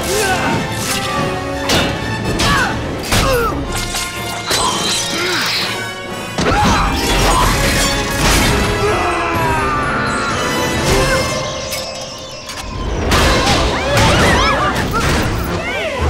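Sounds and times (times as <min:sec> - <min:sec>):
orchestral action music: 0:00.0 - 0:16.0.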